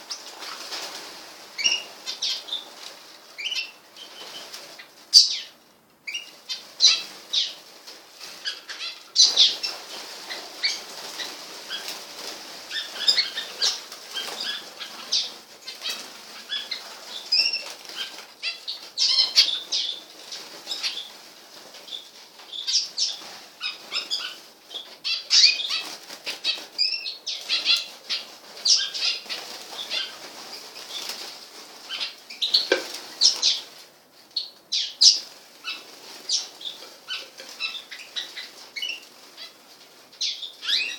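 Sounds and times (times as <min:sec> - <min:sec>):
wings fluttering: 0:00.0 - 0:05.2, 0:06.1 - 0:33.9, 0:34.8 - 0:40.9
small birds chirping: 0:00.0 - 0:40.9.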